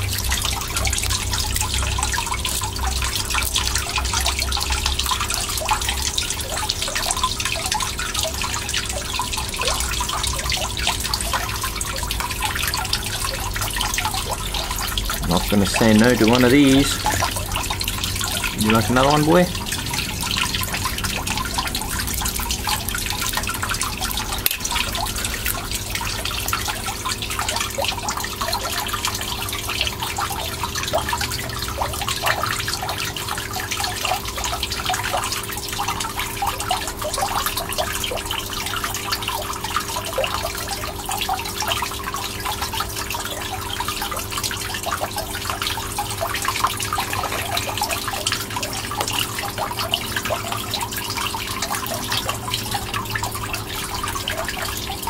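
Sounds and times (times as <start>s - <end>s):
water trickling and dripping: 0.0s - 55.0s.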